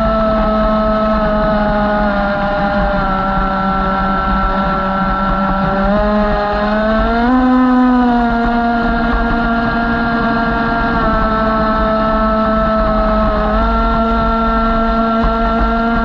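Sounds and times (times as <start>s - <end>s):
model boat motor running: 0.0s - 16.0s.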